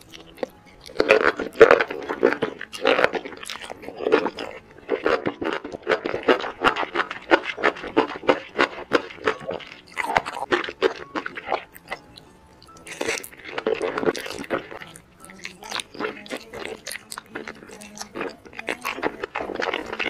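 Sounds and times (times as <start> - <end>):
chewing mouth sounds: 0.0 - 20.0.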